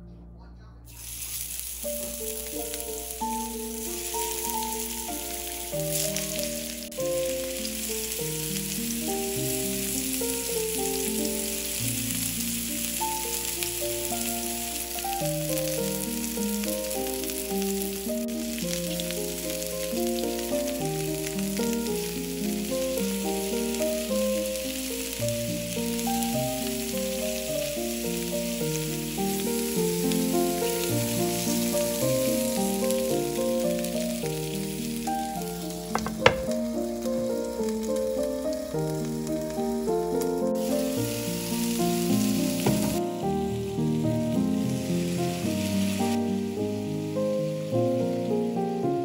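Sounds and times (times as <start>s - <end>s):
meatballs sizzling in oil: 0.9s - 49.0s
background music: 1.8s - 49.0s.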